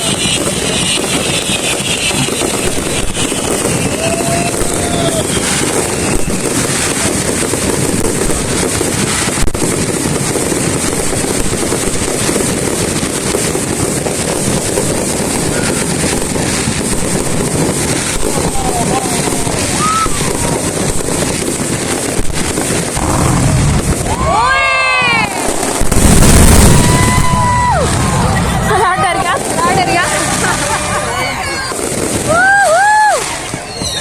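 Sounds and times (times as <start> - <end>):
sharp firework bang: 0.0 - 28.6
fireworks bursts and crackling: 0.0 - 34.0.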